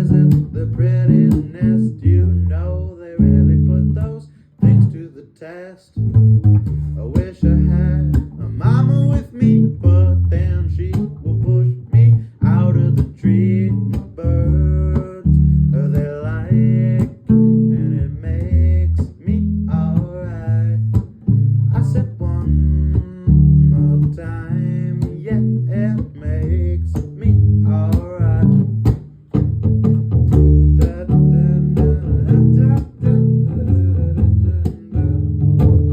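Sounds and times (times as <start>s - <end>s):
bass line: 0.0s - 5.2s, 5.9s - 35.9s
plucked guitar: 0.0s - 35.9s.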